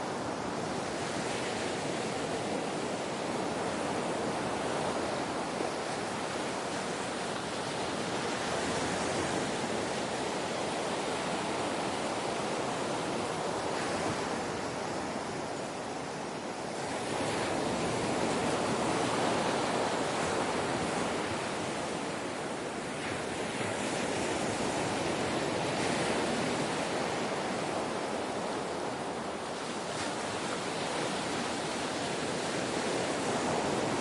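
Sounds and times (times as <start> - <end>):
ocean waves washing: 0.0 - 34.0.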